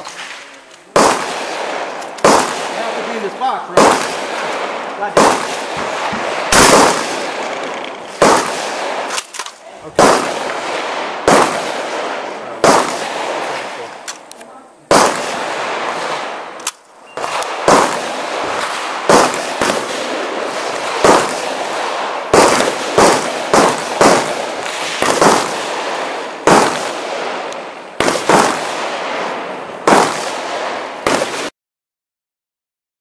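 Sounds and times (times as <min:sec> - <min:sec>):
shotgun shots echoing: 0:00.0 - 0:14.2, 0:14.9 - 0:31.5.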